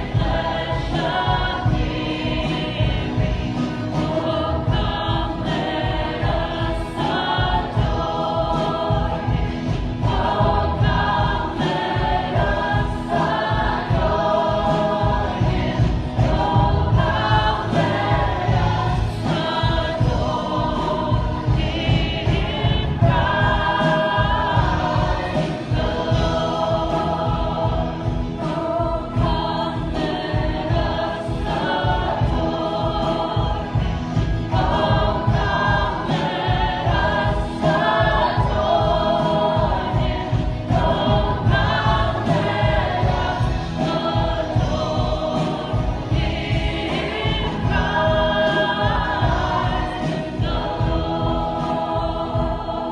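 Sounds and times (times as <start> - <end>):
band accompaniment with steady beat: 0.0 - 52.9
group singing worship song: 0.0 - 52.9.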